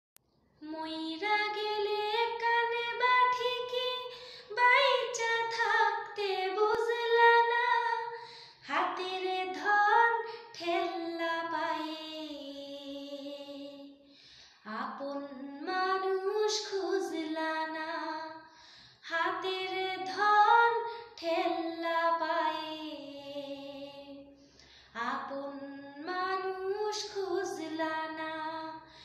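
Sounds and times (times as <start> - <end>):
woman singing unaccompanied: 0.6 - 14.0, 14.7 - 18.4, 19.1 - 24.3, 25.0 - 28.9.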